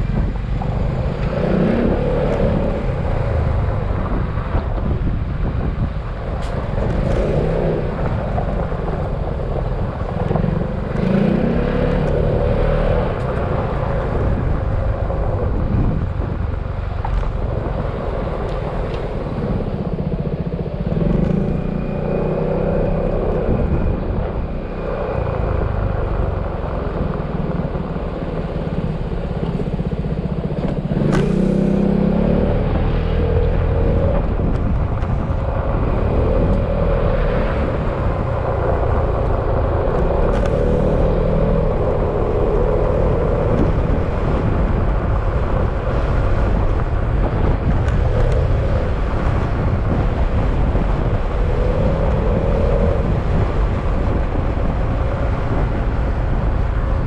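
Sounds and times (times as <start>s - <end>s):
road noise: 0.0s - 57.0s
wind noise: 0.0s - 57.0s.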